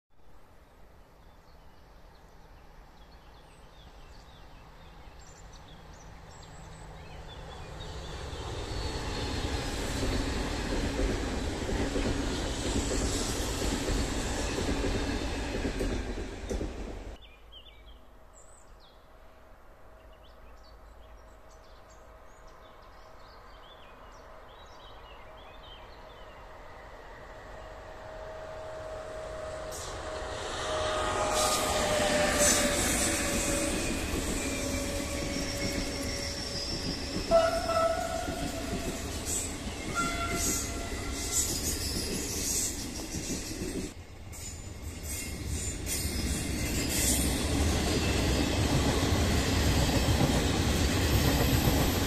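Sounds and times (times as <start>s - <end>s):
electric train passing: 5.4s - 17.2s, 22.1s - 52.0s.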